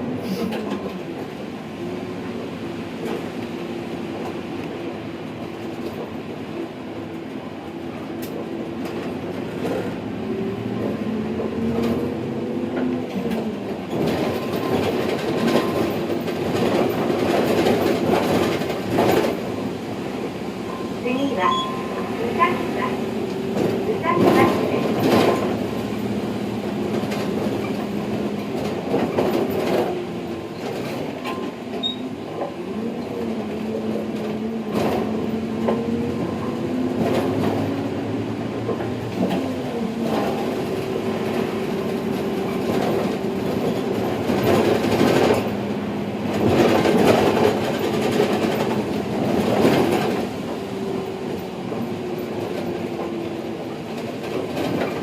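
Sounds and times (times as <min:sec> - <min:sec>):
bus body rattling: 0:00.0 - 0:55.0
bus diesel engine: 0:00.0 - 0:55.0.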